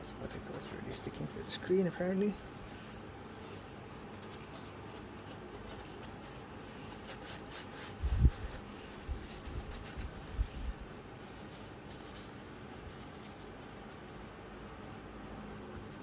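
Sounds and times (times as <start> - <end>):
rubbing laptop screen: 0.2 - 14.6.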